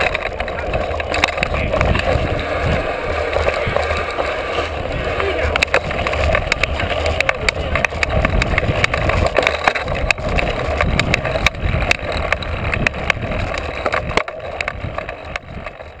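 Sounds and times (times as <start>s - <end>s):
bike clicks and rattles: 0.0s - 16.0s
bike tyres rolling on dirt: 0.0s - 16.0s
wind buffeting microphone: 0.0s - 16.0s.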